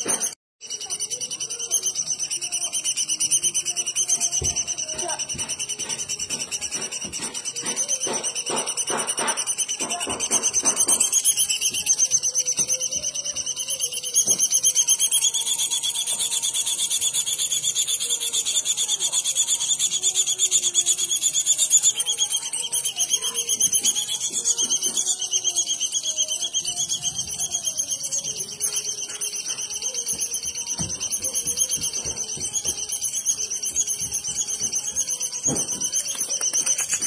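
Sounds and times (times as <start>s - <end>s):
rapid chattering bird notes: 0.0s - 37.0s
bird buzzing trill: 0.1s - 37.0s.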